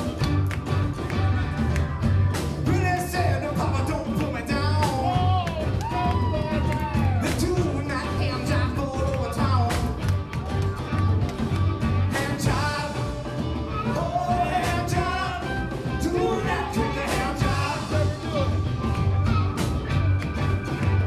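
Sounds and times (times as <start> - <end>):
live blues band playing rock and roll: 0.0 - 21.0.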